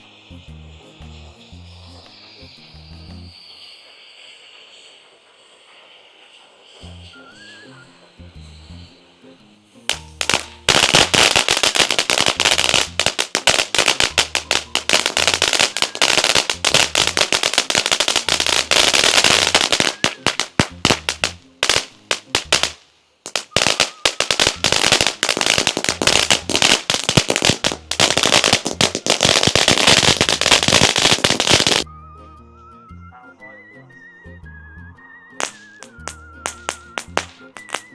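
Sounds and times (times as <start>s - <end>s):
fireworks crackling: 0.0s - 31.9s, 35.3s - 37.9s.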